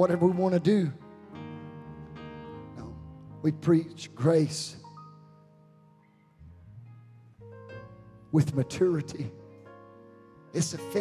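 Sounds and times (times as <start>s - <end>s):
keyboard playing soft chords: 0.0s - 11.0s.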